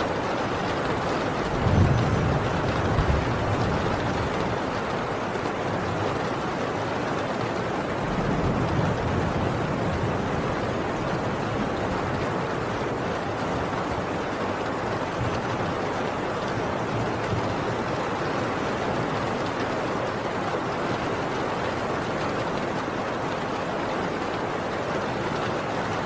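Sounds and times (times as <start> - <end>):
heavy rain on a tin roof: 0.0 - 26.0.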